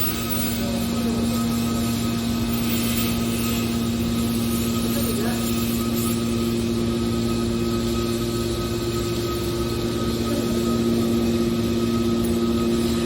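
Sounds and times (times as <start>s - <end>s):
baler machine hum: 0.0s - 13.0s.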